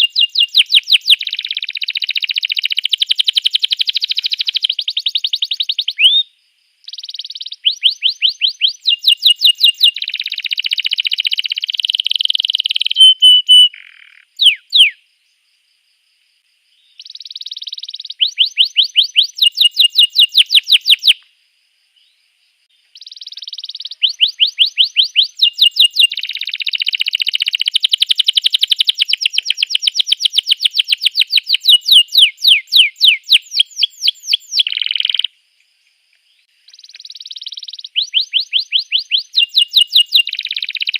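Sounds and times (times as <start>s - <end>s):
canary singing: 0.0s - 6.3s, 6.9s - 15.0s, 17.0s - 21.2s, 22.9s - 35.3s, 36.7s - 40.9s.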